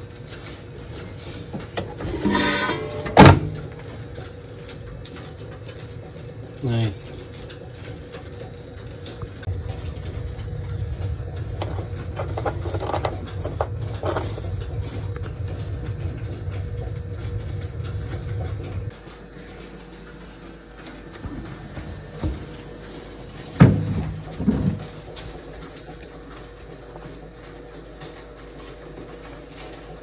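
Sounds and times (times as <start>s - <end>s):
coolant dripping: 0.0s - 30.0s.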